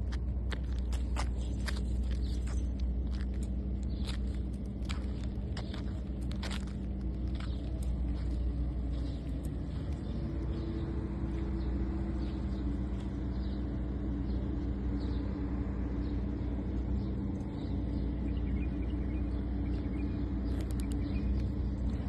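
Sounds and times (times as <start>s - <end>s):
motor rumble and hum: 0.0s - 22.0s.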